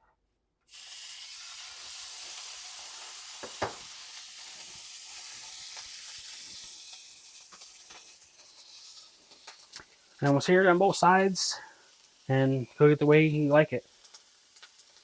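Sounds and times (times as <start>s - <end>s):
steak sizzling in pan: 0.7s - 15.0s.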